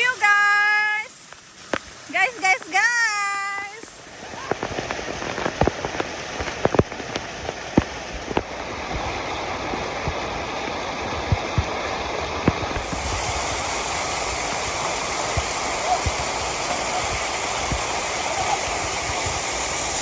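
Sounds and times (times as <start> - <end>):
water drips and splashes: 0.0 - 20.0
waterfall rushing: 0.0 - 20.0.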